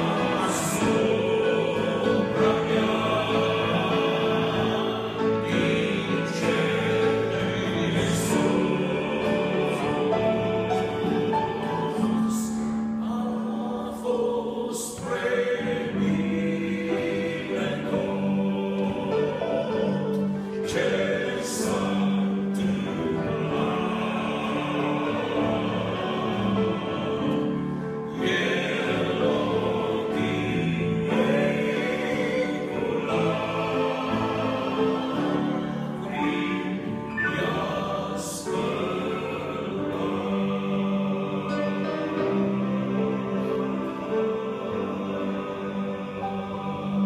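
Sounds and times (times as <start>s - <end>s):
male choir singing in harmony: 0.0s - 47.0s.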